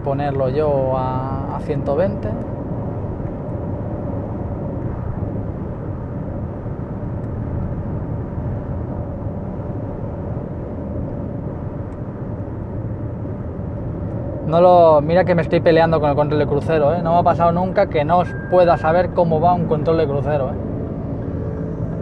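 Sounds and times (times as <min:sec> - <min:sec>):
faint steady hum: 0:00.0 - 0:22.0
tyre and wind road noise in car: 0:00.0 - 0:22.0.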